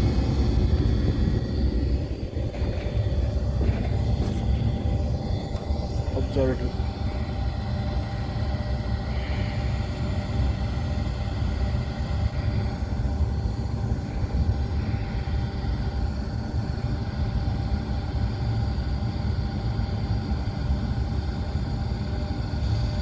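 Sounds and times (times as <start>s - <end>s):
hvac unit rumbling and humming: 0.0s - 23.0s.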